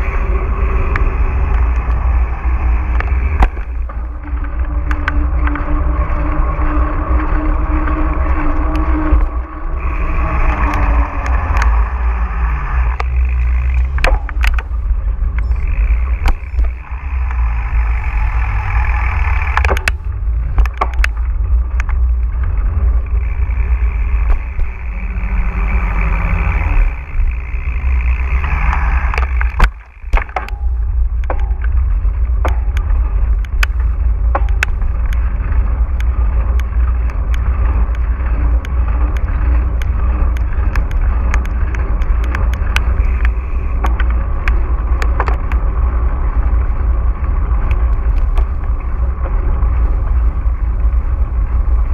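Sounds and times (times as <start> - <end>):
bike rattling clicks and knocks: 0.0 - 51.9
wind rumble on microphone: 0.0 - 51.9.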